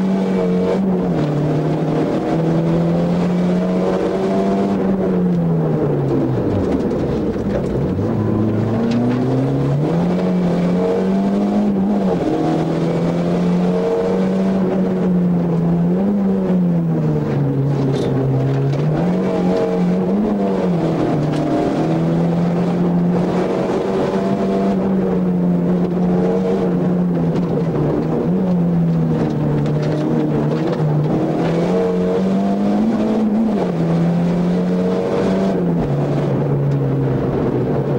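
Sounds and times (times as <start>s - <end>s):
car engine at high revs: 0.0s - 37.9s.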